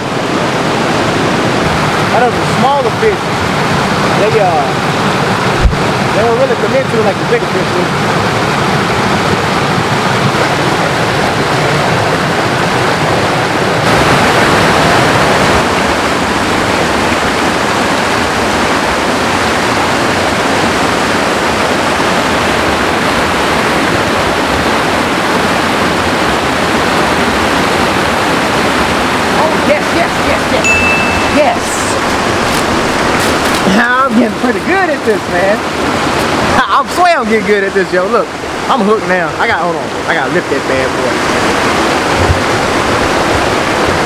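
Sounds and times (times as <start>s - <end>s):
creek rushing over boulders: 0.0s - 44.0s.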